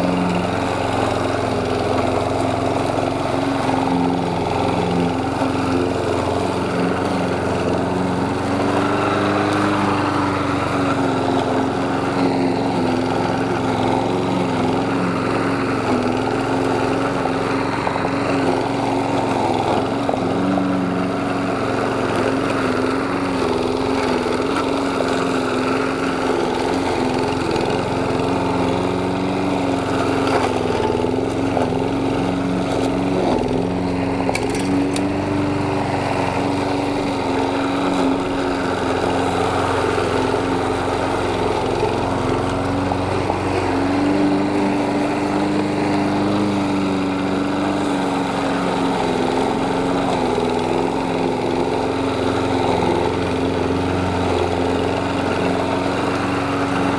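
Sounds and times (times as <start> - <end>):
lawn mower running: 0.0 - 56.9.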